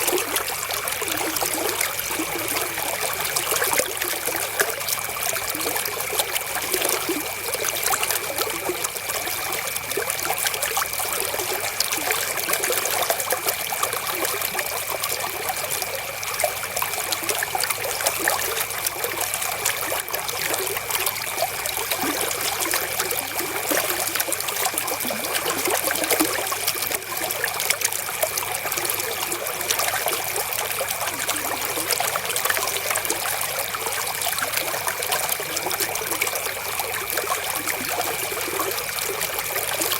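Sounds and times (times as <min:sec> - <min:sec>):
river water flowing: 0:00.0 - 0:39.9
small water splashes: 0:00.0 - 0:39.9.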